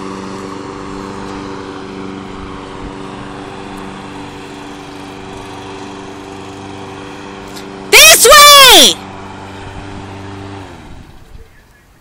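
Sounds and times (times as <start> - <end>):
lawnmower engine running: 0.0 - 12.0.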